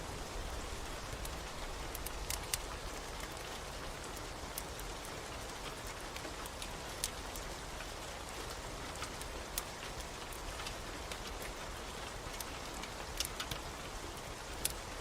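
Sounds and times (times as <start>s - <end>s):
steady rain: 0.0s - 15.0s
wood fire crackling: 0.1s - 15.0s.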